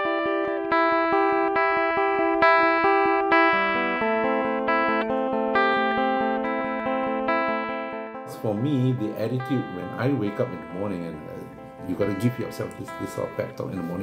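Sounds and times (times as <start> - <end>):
solo plucked guitar: 0.0 - 14.0.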